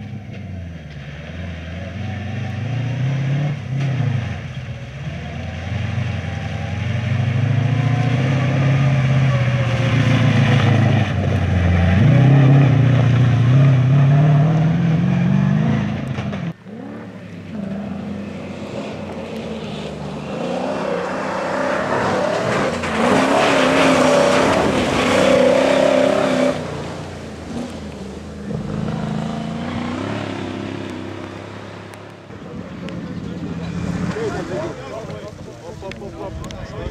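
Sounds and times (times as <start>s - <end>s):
engine revving up and down: 0.0s - 34.8s
truck engine accelerating: 0.0s - 36.9s.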